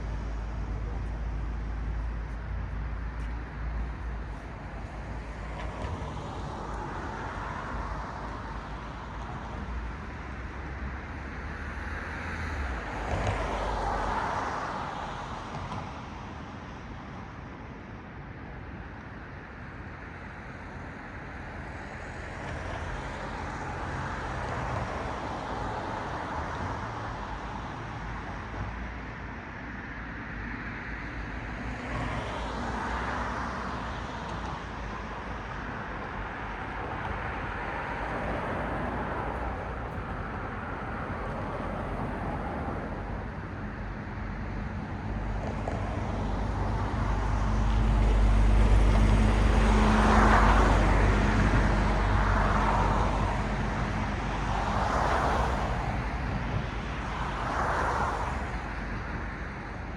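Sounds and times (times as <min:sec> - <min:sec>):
cars passing: 0:00.0 - 0:59.9
low traffic rumble: 0:00.0 - 0:59.9.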